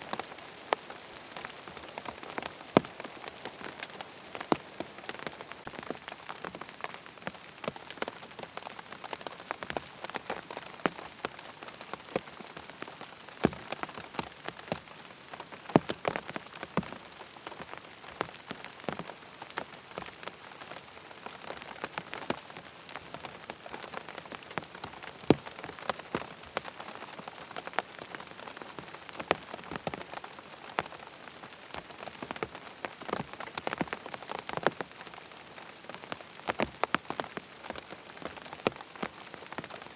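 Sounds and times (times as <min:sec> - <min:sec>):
rain drops clicking: 0:00.0 - 0:39.9
steady rain hiss: 0:00.0 - 0:39.9.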